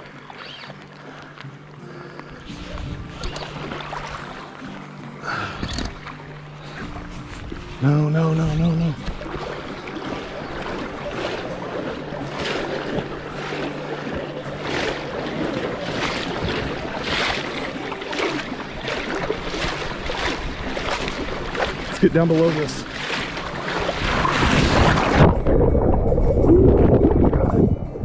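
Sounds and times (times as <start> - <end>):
water splashing around wading legs: 0.0 - 27.8.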